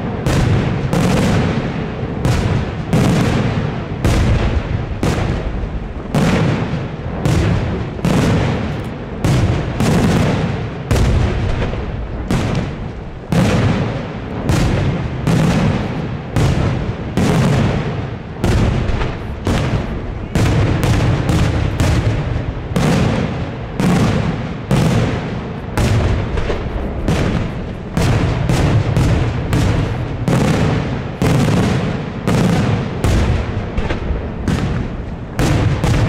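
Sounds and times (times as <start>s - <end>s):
fireworks bursting with loud bangs: 0.0s - 36.0s.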